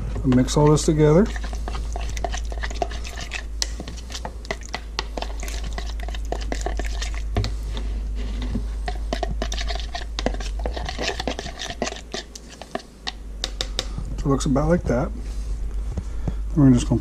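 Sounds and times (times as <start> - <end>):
metal spoon stirring in plastic cup: 0.2 - 13.9.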